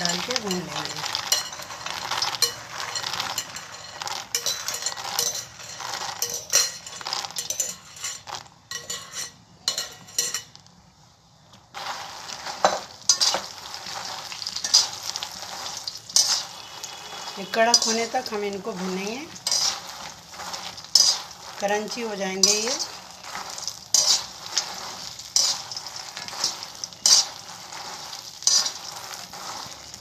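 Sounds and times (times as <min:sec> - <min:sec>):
metal spatula scraping a wok: 0:00.0 - 0:10.5, 0:11.8 - 0:30.0
light sizzle of ghee: 0:00.0 - 0:30.0.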